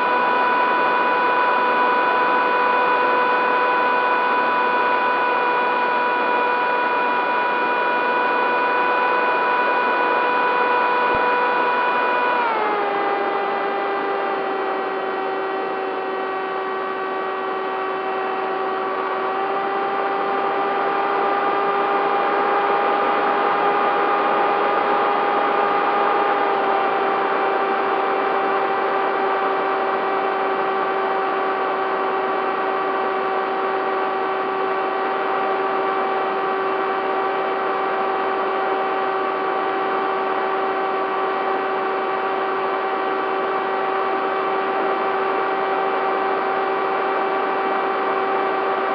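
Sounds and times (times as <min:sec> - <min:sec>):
model plane motor whining: 0:00.0 - 0:48.9.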